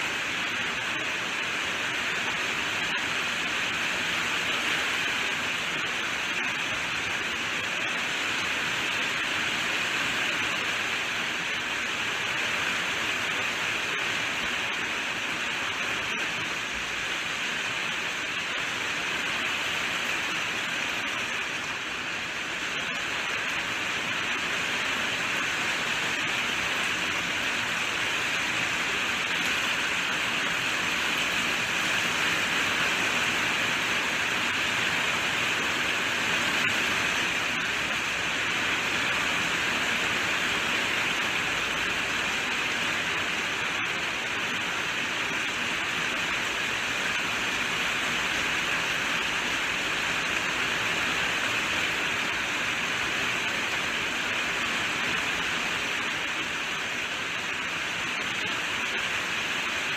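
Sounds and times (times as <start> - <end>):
steady rainfall hiss: 0.0 - 59.9.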